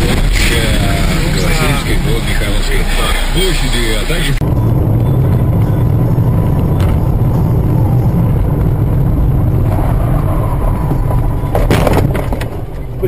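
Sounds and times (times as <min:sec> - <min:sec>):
road and engine drone in car: 0:00.0 - 0:13.0.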